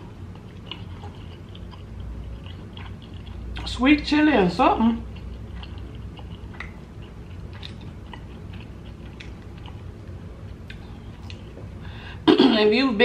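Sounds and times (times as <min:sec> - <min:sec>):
chewing crispy food: 0:00.0 - 0:04.1, 0:04.8 - 0:11.8.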